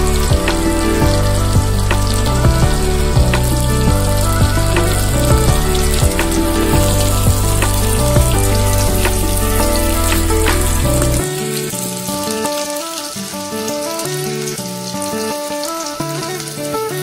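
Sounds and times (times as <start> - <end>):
instrumental background music: 0.0 - 17.0
shallots sizzling in a pot: 0.0 - 17.0.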